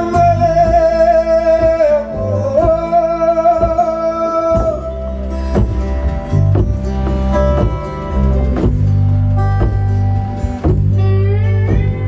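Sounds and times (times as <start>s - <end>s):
bass and percussion: 0.0s - 12.0s
strummed acoustic guitar: 0.0s - 12.0s.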